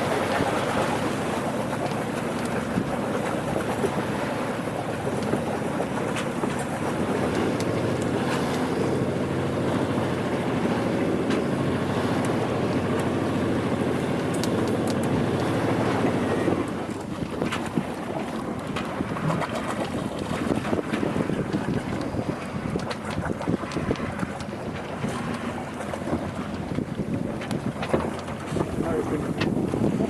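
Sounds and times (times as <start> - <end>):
water rushing along a hull: 0.0 - 30.0
wind buffeting microphone: 0.0 - 30.0.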